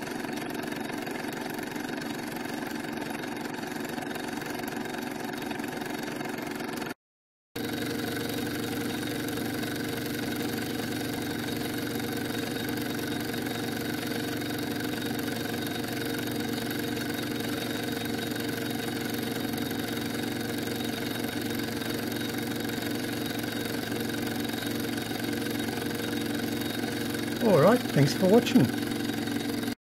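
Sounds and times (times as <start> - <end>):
model steam engine running: 0.0 - 6.9, 7.6 - 29.8.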